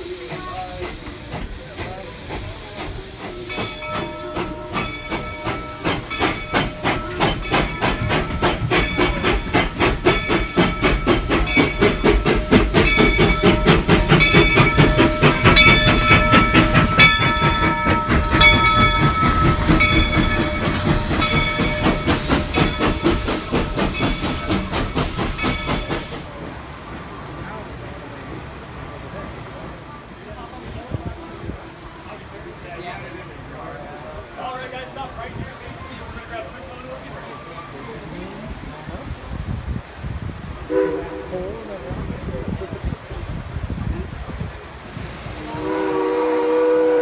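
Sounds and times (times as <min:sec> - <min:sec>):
hiss of steam: 0:00.0 - 0:47.0
steam locomotive chuffing: 0:00.0 - 0:47.0.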